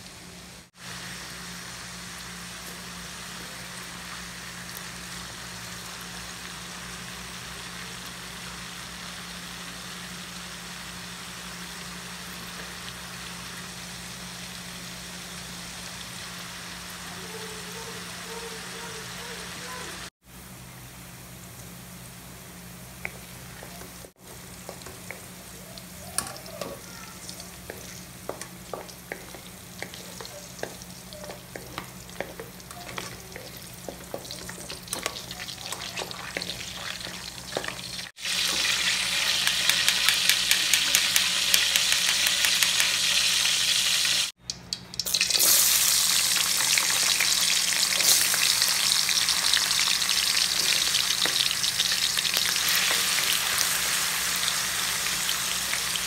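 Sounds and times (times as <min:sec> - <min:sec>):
carrots frying in oil: 0:00.0 - 0:56.0
potatoes sizzling in hot oil: 0:00.0 - 0:56.0.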